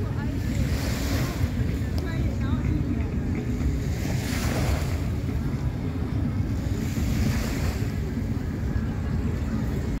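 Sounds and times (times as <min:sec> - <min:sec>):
sea washing on shore: 0:00.0 - 0:10.0
wind buffeting microphone: 0:00.0 - 0:10.0.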